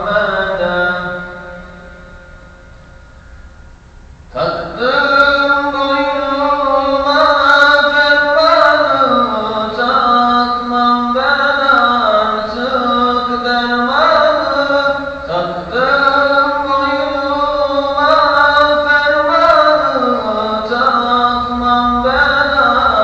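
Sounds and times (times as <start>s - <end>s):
man chanting a hymn: 0.0s - 2.2s, 4.3s - 23.0s.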